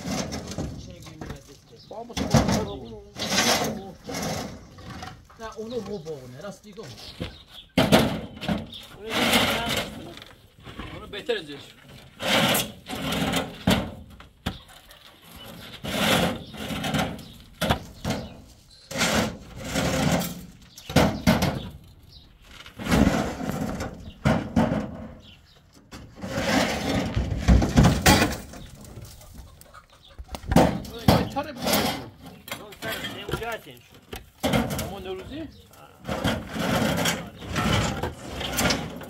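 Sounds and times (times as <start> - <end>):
concrete blocks scraping across truck bed: 0.0 - 29.8, 30.4 - 39.0
concrete blocks grating and knocking: 0.0 - 39.0.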